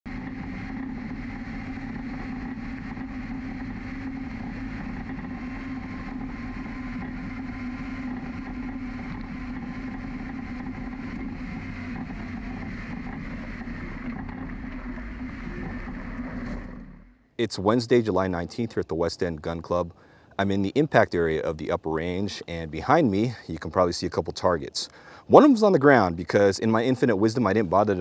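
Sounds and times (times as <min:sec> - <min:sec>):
vehicle engine drone: 0:00.1 - 0:23.8.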